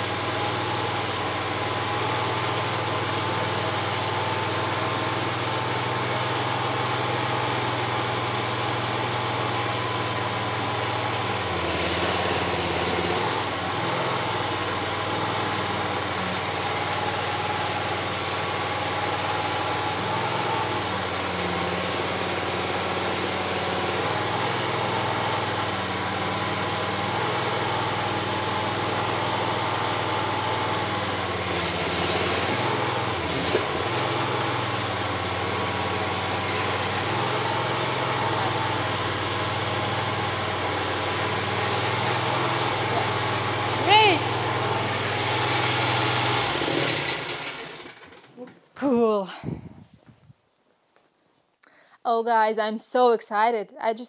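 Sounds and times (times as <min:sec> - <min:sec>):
small engine running: 0:00.0 - 0:48.6.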